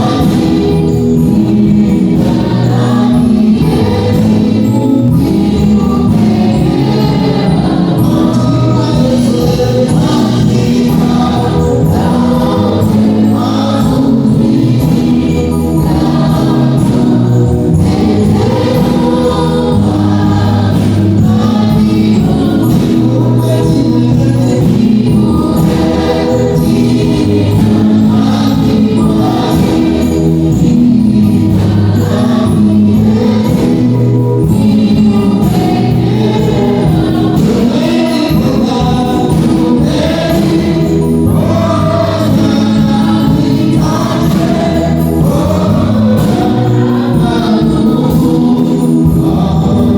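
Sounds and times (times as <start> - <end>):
choir singing gospel music: 0.0 - 49.9.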